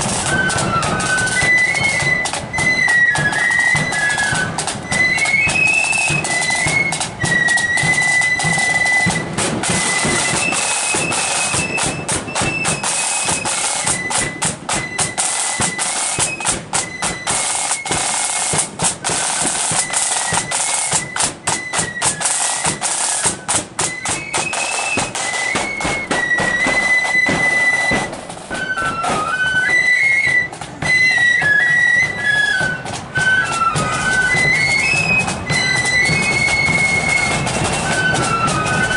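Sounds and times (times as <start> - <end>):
flute melody: 0.0 - 38.9
side drum beats and rolls: 0.0 - 38.9.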